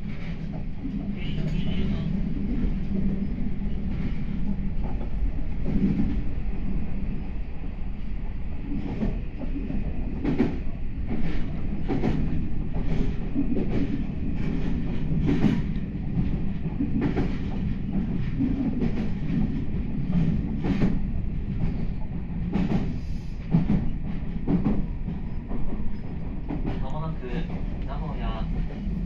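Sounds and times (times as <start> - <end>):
train interior rumble: 0.0 - 29.0.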